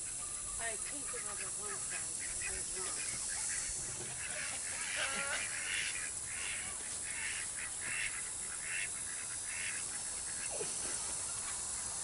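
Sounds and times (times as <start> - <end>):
poultry harsh call: 0.0 - 12.0
steady high hiss: 0.0 - 12.0.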